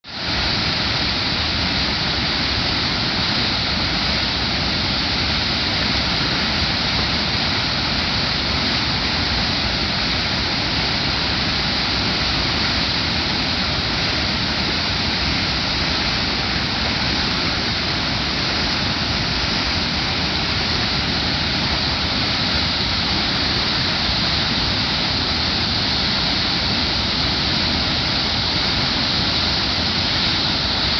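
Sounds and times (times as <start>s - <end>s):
waterfall pouring over rocks: 0.1s - 30.9s.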